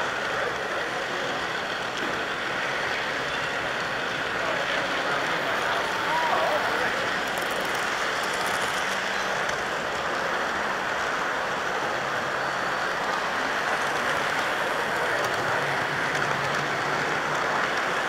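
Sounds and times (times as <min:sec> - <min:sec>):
model train wheels rattling on rail: 0:00.0 - 0:18.0.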